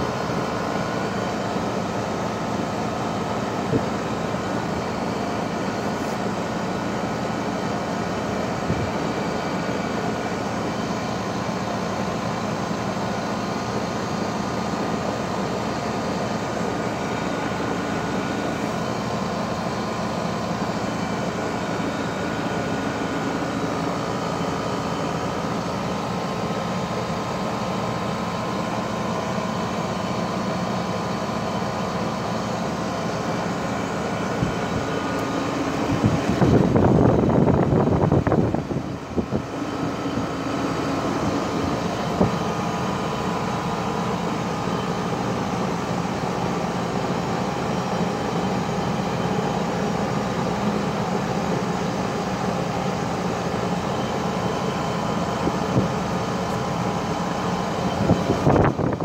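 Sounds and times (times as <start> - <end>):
heat pump fan rushing air: 0.0 - 59.0.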